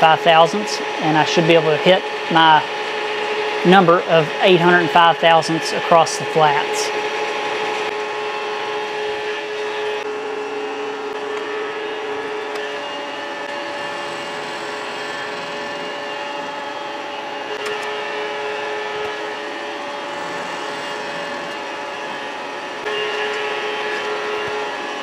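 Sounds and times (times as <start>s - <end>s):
machine tone: 0.0s - 25.0s
milling machine humming: 0.0s - 25.0s.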